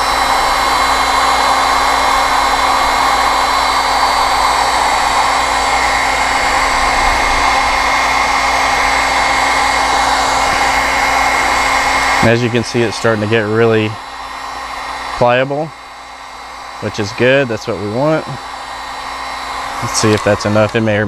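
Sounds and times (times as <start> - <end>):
fan whine: 0.0 - 21.0
heat gun blowing hiss: 0.0 - 21.0.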